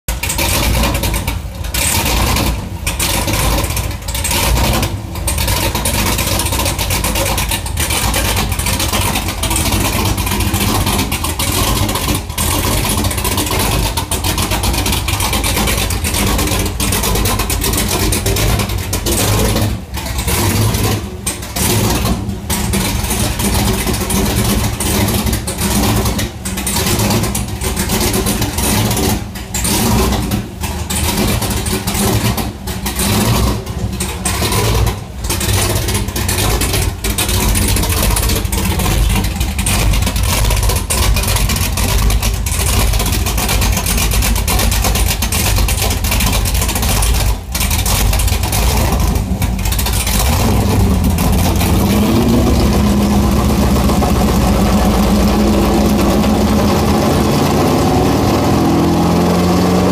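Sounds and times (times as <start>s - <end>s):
car engine uneven idle: 0.1s - 59.9s.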